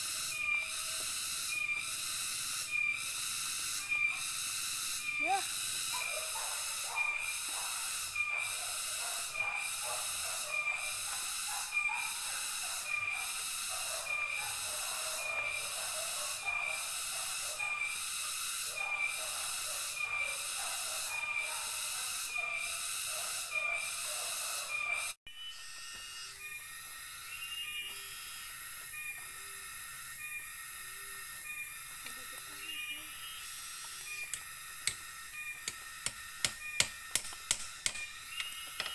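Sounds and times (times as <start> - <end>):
cicadas buzzing: 0.0 - 38.9.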